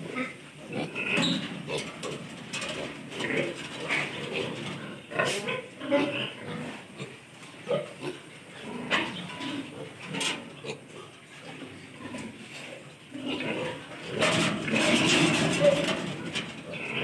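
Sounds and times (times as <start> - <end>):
piglets grunting: 0.0 - 12.5, 13.1 - 17.0.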